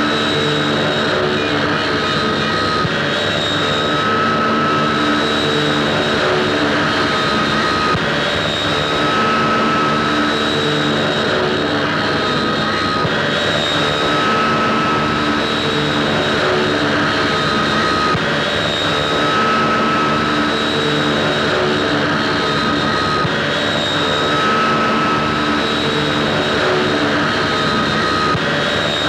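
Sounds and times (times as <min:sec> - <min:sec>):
propeller aircraft engine drone: 0:00.0 - 0:29.0.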